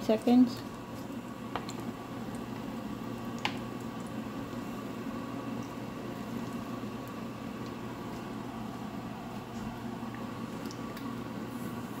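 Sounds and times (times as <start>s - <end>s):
spices sizzling in hot fat: 0.0s - 12.0s.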